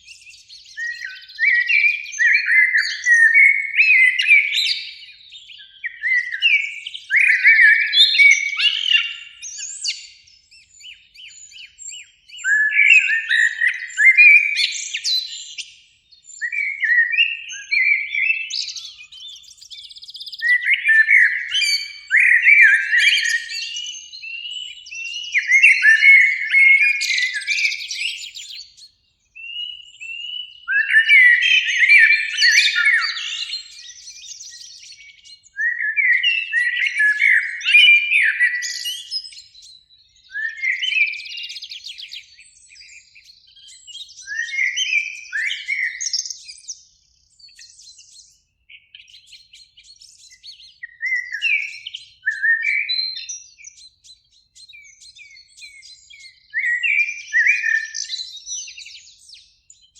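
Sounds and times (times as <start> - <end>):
blackbird singing: 0.0 - 59.9.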